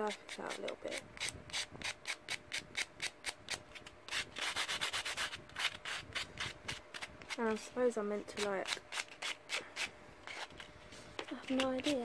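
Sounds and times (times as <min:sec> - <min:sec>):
nail buffer scratching nails: 0:00.0 - 0:07.7, 0:08.3 - 0:12.0.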